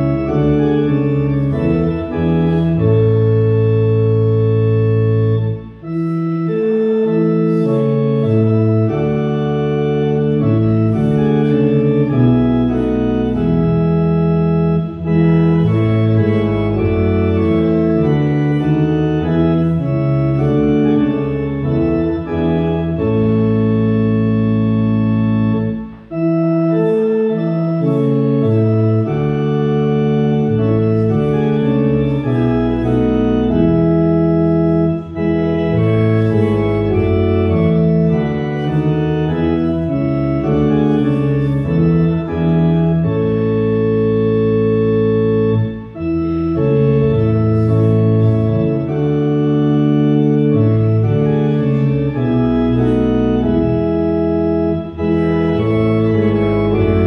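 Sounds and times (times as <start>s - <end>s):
organ playing a hymn: 0.0s - 57.0s.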